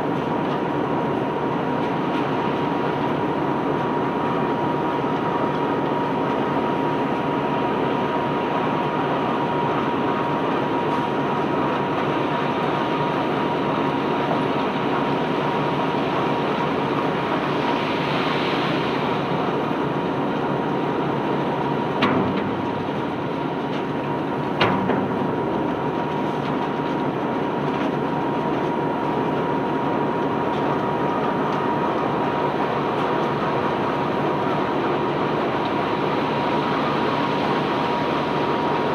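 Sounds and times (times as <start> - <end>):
conveyor belt rumbling and whining: 0.0 - 38.9.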